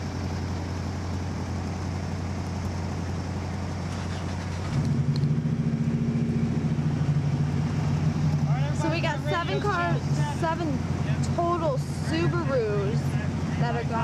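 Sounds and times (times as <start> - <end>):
car engine idling: 0.0 - 14.0
pulsing engine idle: 0.0 - 14.0.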